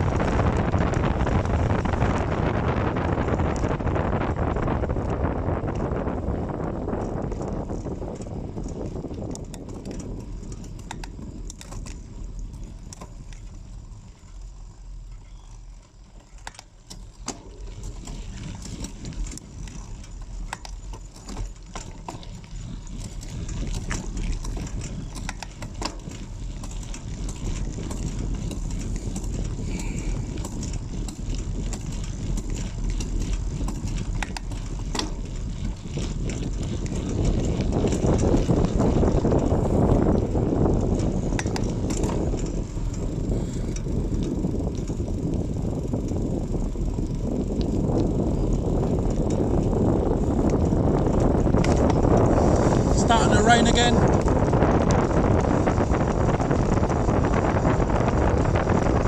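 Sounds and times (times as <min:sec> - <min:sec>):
bicycle tyre noise: 0:00.0 - 0:59.0
bike clicks and rattles: 0:00.0 - 0:59.0
wind rumbling on microphone: 0:00.0 - 0:59.0.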